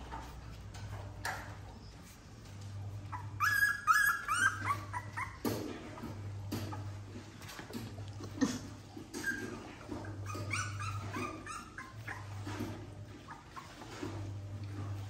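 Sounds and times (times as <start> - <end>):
puppies whimpering and yipping: 1.2 - 7.6, 8.3 - 15.0.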